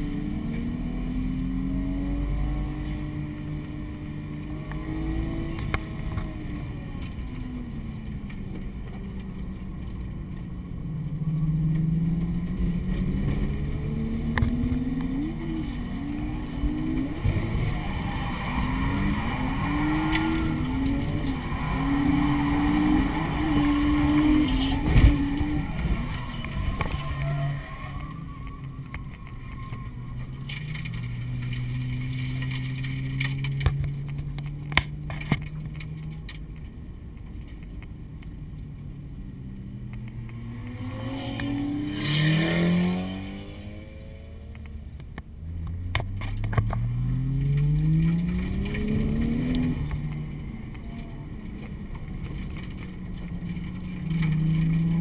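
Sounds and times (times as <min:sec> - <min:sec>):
car engine revving: 0:00.0 - 0:36.4, 0:39.4 - 0:55.0.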